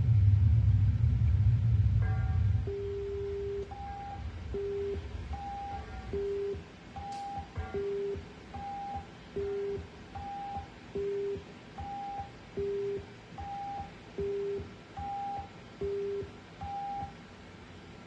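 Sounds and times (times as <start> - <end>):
two-tone alarm beeps: 2.7 - 17.2.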